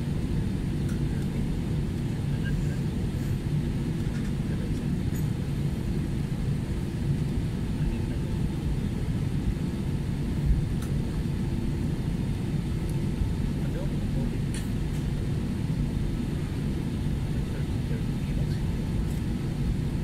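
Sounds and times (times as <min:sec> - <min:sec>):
airplane cabin rumble: 0:00.0 - 0:20.0
faint constant hum: 0:00.0 - 0:20.0.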